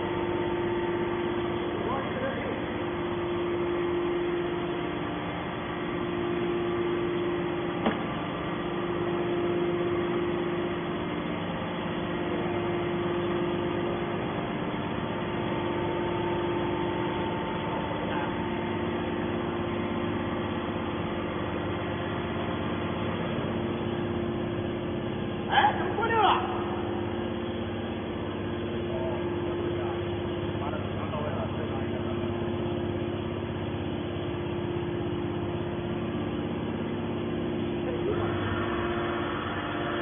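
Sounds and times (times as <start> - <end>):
motor and pump humming: 0.0 - 40.0.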